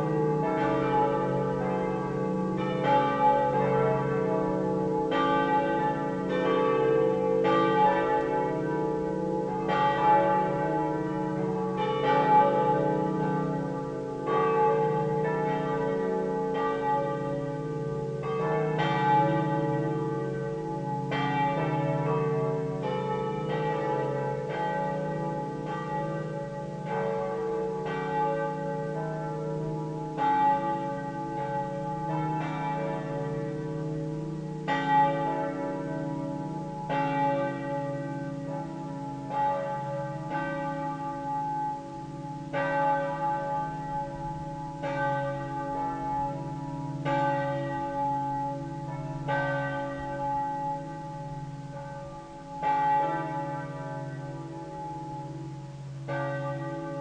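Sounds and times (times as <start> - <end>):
swinging church bells pealing: 0.0 - 57.0.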